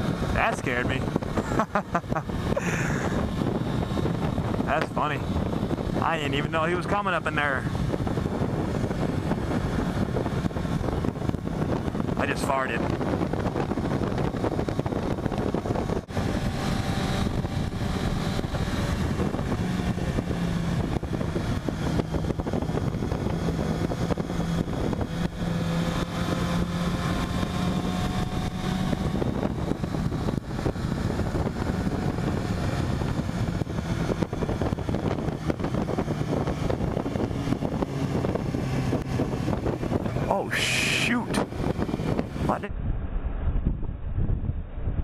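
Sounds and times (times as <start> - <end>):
motorcycle engine cruising: 0.0 - 45.0
wind rushing over microphone: 0.0 - 45.0.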